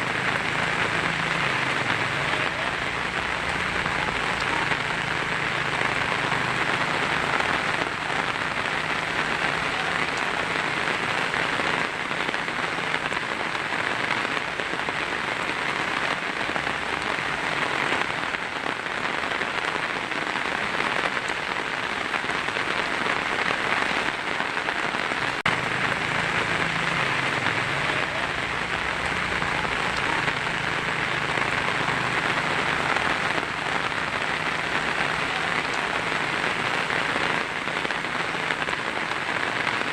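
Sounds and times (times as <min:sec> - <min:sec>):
rain drumming on a tin roof: 0:00.0 - 0:39.9.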